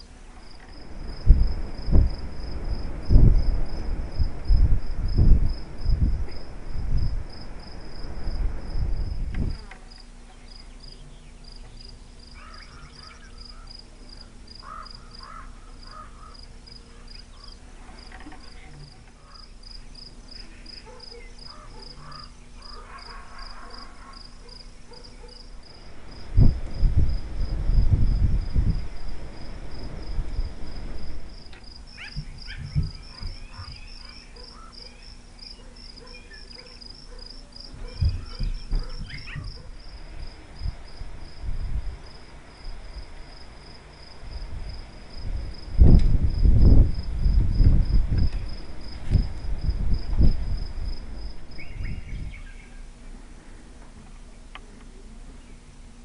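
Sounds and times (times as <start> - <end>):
crickets chirping: 0.0 - 54.6.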